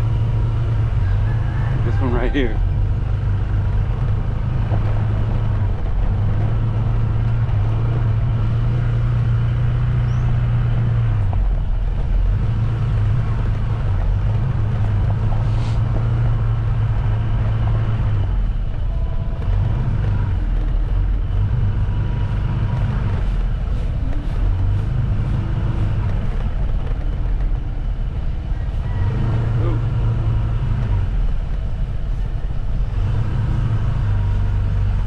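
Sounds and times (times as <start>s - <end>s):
road noise: 0.0s - 35.0s
vehicle engine hum: 0.0s - 35.0s.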